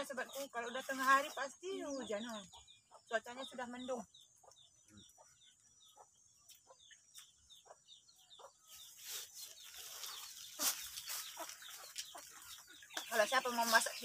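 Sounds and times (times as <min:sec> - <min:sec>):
chickens clucking: 0:00.0 - 0:14.0
chicks peeping: 0:00.0 - 0:14.0.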